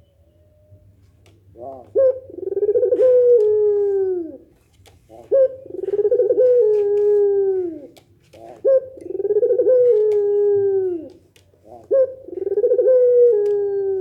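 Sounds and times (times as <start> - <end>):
doves cooing: 1.1 - 14.0.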